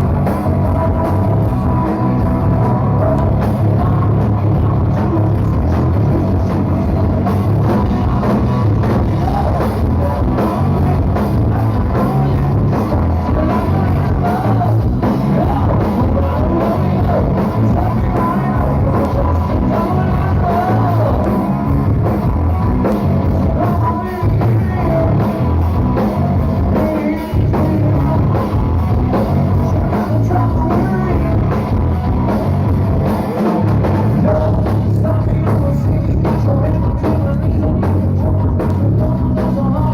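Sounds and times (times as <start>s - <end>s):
lead singer singing: 0.0s - 32.7s, 33.3s - 39.9s
rock band playing: 0.0s - 39.9s.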